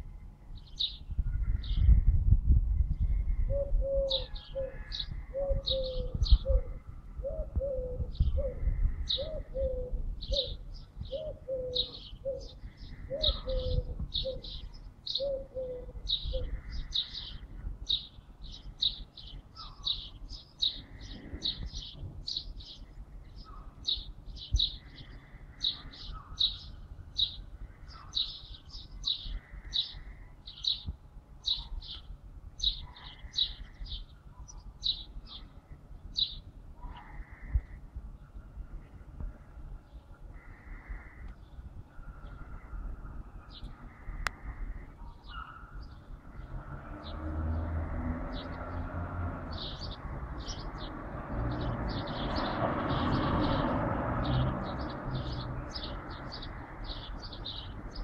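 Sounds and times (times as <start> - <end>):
small birds chirping: 0.0 - 2.0, 2.8 - 58.0.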